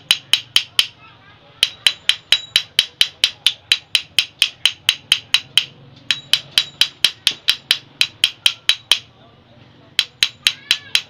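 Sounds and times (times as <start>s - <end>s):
metal-on-metal tapping: 0.0s - 1.0s, 1.6s - 9.1s, 10.0s - 11.0s.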